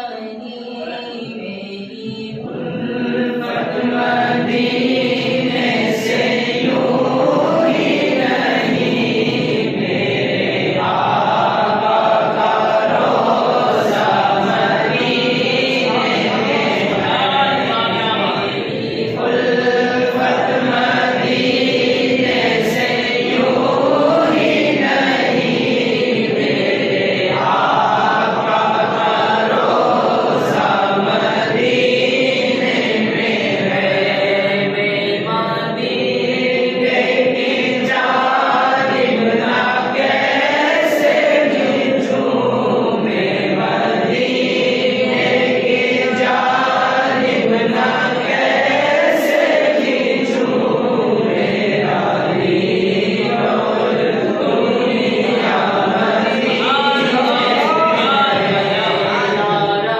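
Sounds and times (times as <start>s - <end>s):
man singing unaccompanied chant: 0.0s - 59.9s.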